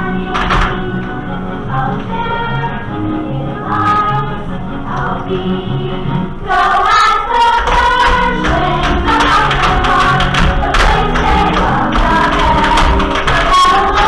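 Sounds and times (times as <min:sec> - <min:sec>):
children singing together: 0:00.0 - 0:14.0
instrumental accompaniment: 0:00.0 - 0:14.0.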